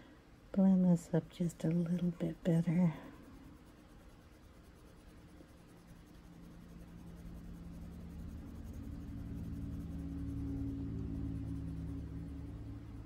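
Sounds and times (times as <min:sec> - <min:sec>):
coloured pencil scratching on paper: 0:01.6 - 0:13.0.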